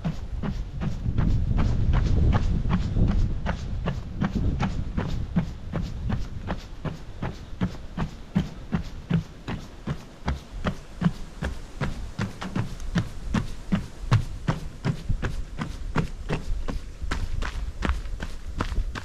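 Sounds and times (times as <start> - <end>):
running footsteps on wooden boards: 0.0 - 19.0.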